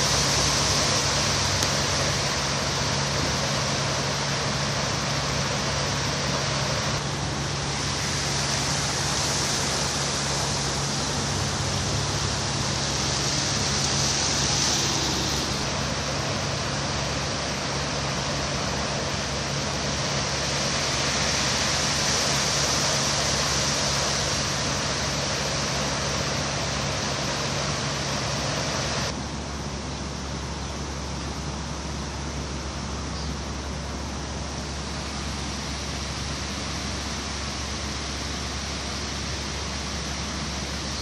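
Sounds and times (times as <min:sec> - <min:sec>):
floodwater rushing: 0:00.0 - 0:41.0.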